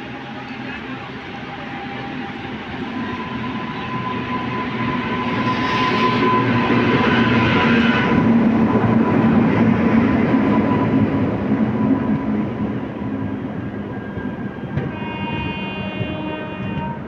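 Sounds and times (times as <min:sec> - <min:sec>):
passenger train rumbling past: 0:00.0 - 0:17.0.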